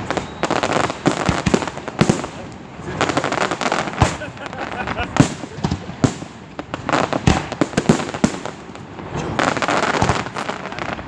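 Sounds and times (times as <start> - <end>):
firework shells bursting: 0.0 - 10.5
fireworks crackling: 0.0 - 11.0.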